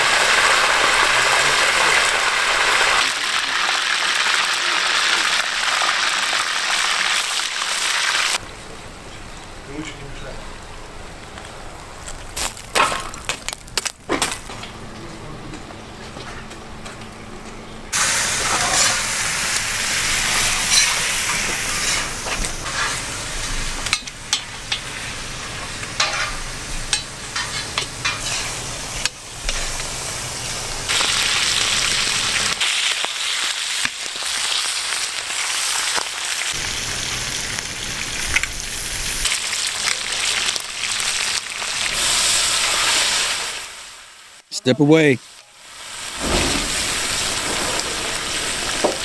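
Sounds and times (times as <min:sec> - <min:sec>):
meat and mushrooms sizzling: 0:00.0 - 0:09.7, 0:17.9 - 0:49.0.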